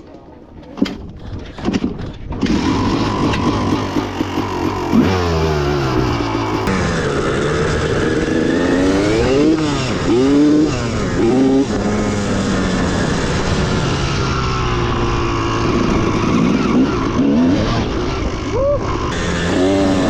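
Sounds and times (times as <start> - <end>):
dirt bike engine revving: 2.0 - 20.0
dirt bike engines idling: 2.5 - 20.0.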